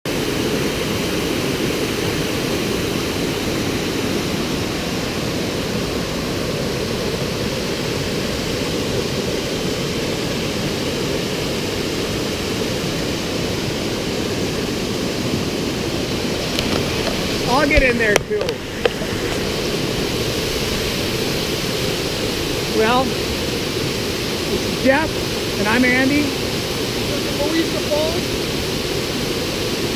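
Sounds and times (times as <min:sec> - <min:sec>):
waterfall rushing: 0:00.1 - 0:29.9.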